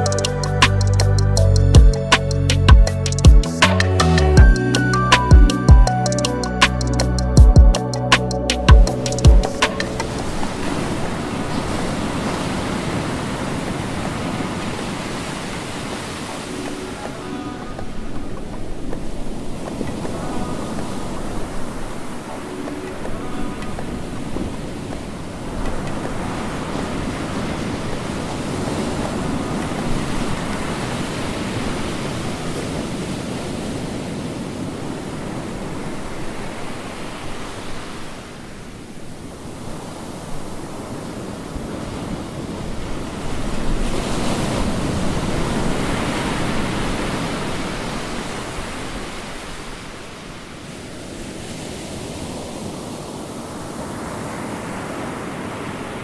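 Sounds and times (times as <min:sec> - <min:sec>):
ocean waves breaking: 0:08.3 - 0:56.0.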